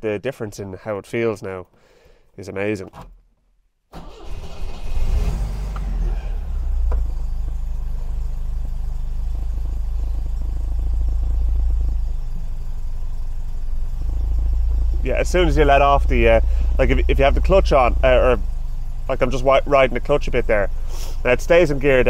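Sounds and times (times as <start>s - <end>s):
car engine starting and idling: 3.9s - 22.0s.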